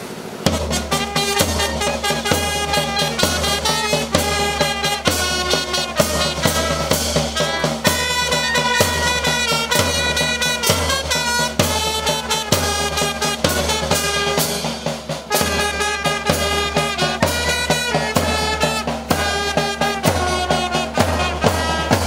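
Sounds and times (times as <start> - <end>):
upbeat instrumental music: 0.5 - 22.0.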